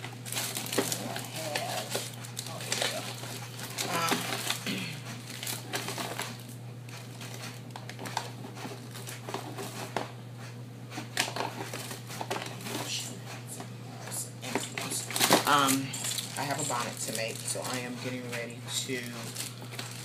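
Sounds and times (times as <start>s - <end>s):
rustling and crinkling: 0.0s - 10.2s, 10.9s - 13.7s, 14.4s - 20.0s
steady low hum: 0.0s - 20.0s.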